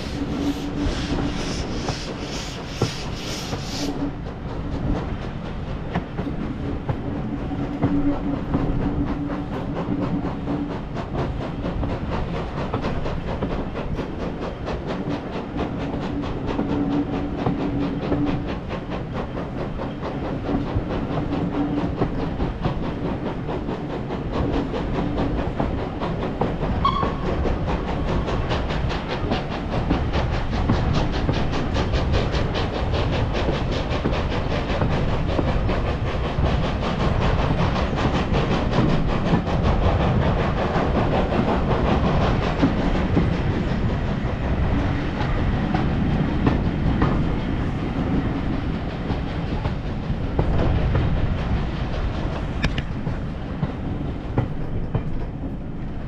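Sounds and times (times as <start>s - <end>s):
steam train rumble: 0.0s - 56.0s.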